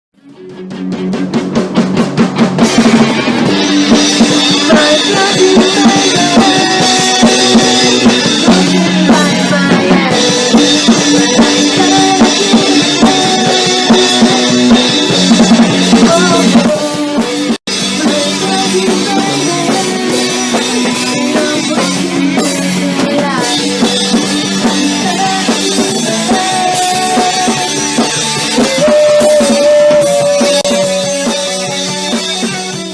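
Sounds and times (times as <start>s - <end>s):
rock band music: 0.2s - 32.9s.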